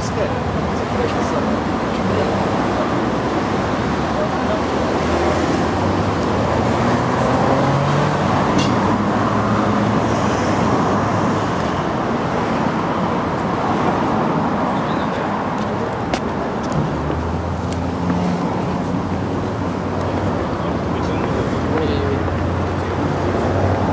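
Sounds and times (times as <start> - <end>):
cars passing: 0.0 - 23.9
traffic rumble with engine hum: 0.0 - 23.9.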